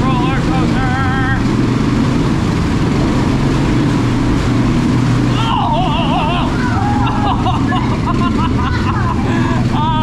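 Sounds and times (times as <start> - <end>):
atv engine running under load: 0.0 - 10.0.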